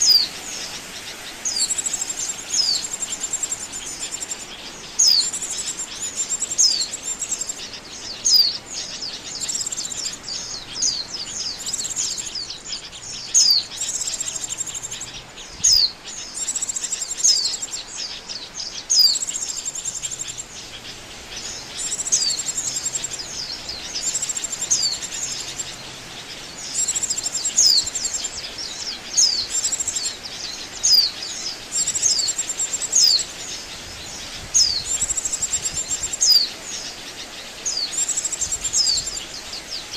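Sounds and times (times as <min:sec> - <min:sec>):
bird chirps and chattering: 0:00.0 - 0:33.6.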